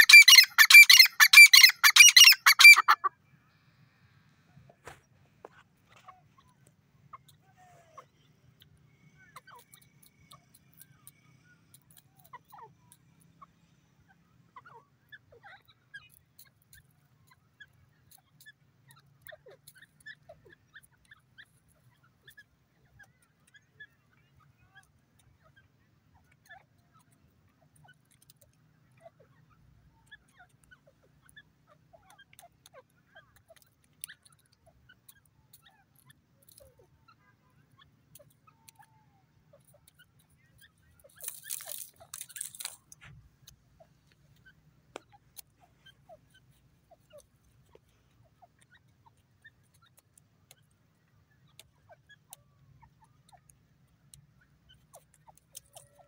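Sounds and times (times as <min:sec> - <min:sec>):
faint chirps and ticks: 0:00.0 - 0:56.0.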